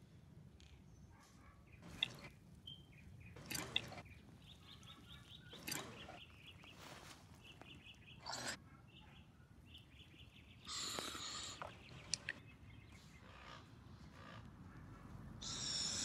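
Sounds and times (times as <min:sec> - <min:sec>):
bird chirping faintly: 0:00.7 - 0:16.0.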